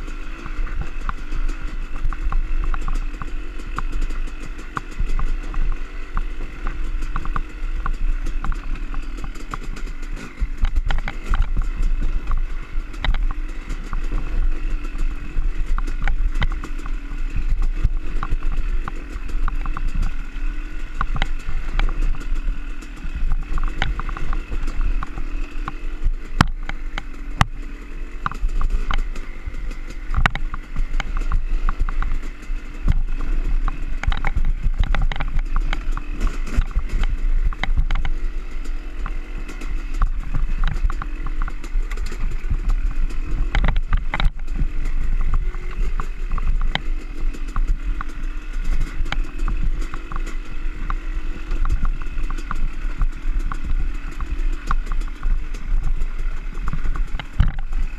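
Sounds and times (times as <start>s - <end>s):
dirt bike engine running: 0.0s - 57.9s
knocks and clatter from bumps: 0.0s - 57.9s.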